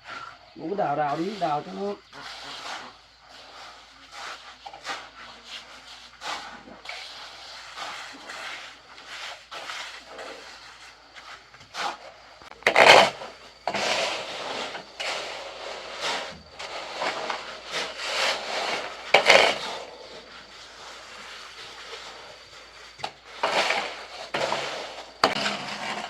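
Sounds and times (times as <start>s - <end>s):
shovel scraping mix: 1.1s - 26.0s.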